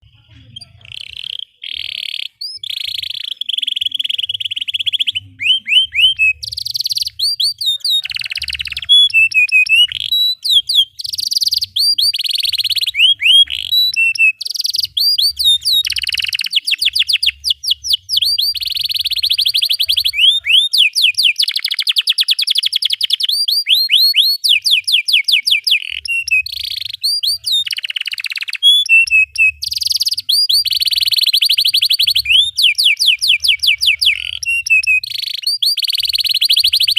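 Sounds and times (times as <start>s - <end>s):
canary singing: 0.0s - 36.9s.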